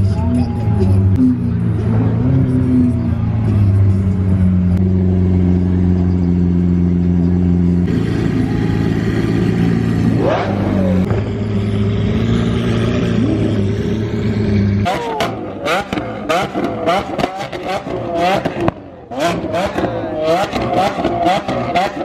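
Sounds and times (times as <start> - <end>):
car engine running: 0.0 - 22.0
engine rev: 0.0 - 22.0.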